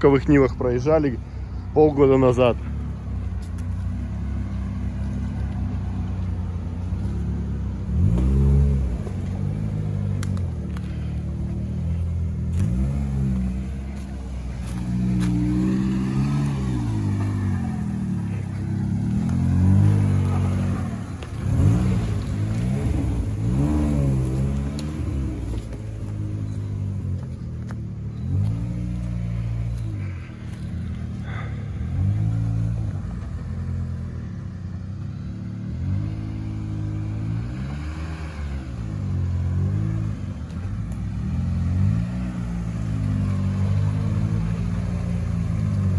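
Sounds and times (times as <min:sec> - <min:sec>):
suv engine revving: 0:00.0 - 0:45.9.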